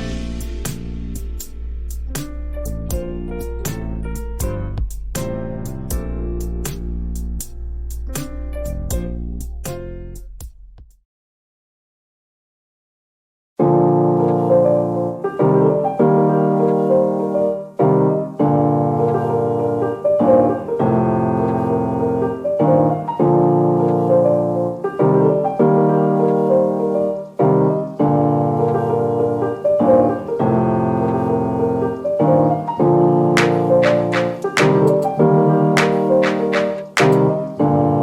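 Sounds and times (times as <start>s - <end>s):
piano chord progression: 0.0s - 10.1s, 13.6s - 38.0s.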